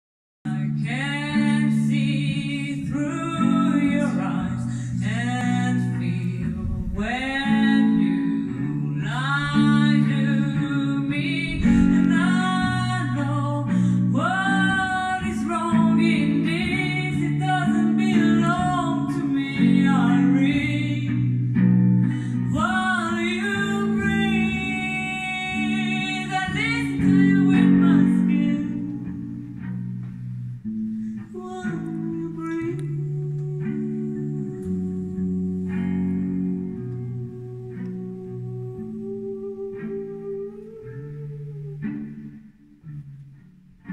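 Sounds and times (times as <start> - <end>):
woman singing into microphone: 0.5 - 29.6, 31.2 - 41.8
guitar playing: 0.5 - 43.9.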